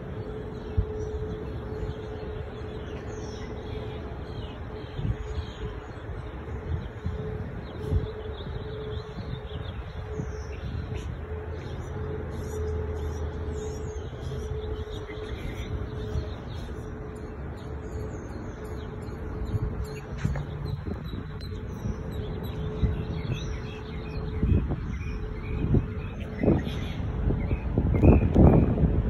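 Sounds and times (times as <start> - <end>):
steady hum: 0.0 - 29.0
traffic rumble: 0.0 - 29.0.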